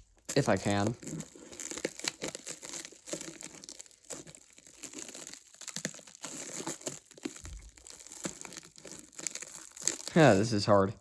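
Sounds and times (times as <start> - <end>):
packaging wrap crinkling and tearing: 0.0 - 10.8.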